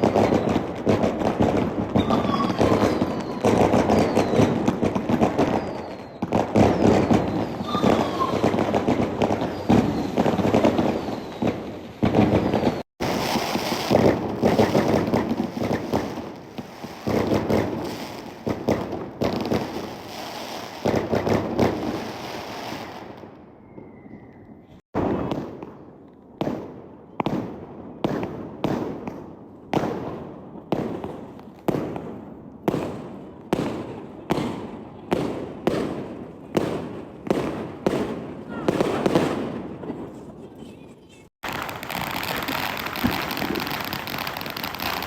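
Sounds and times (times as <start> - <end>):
fireworks crackling bursts: 0.0 - 23.3, 25.0 - 45.0
firework bangs: 0.0 - 23.9, 25.0 - 40.4, 41.4 - 45.0.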